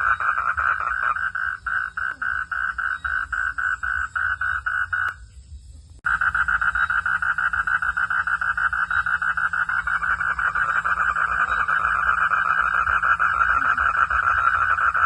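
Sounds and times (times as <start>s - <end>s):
frogs chorus pulsing trill: 0.0s - 15.0s.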